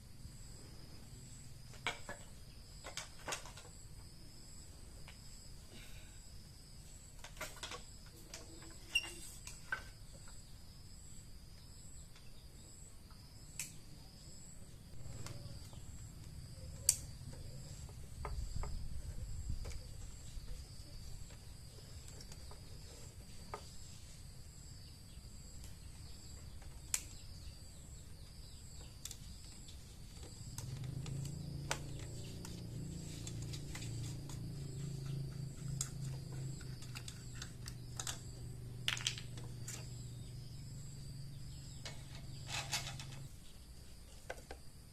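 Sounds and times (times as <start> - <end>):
crickets chirring: 0.0 - 44.9.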